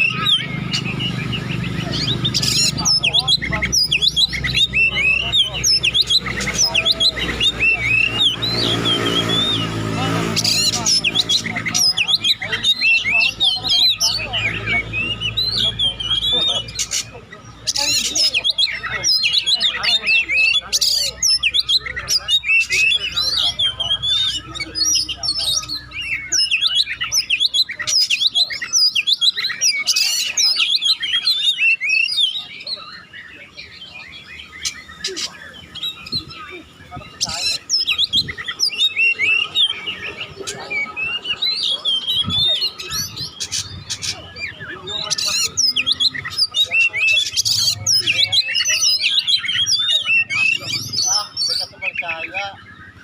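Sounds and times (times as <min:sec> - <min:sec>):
bird singing whistled notes: 0:00.0 - 0:53.0.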